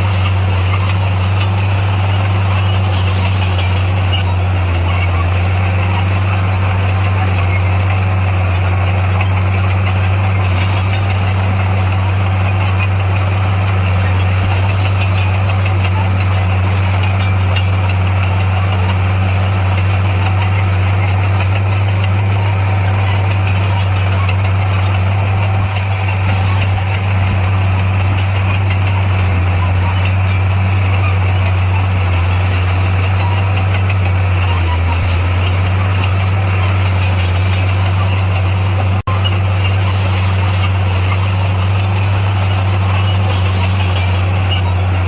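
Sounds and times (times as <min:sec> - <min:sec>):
diesel engine low hum: 0:00.0 - 0:45.0.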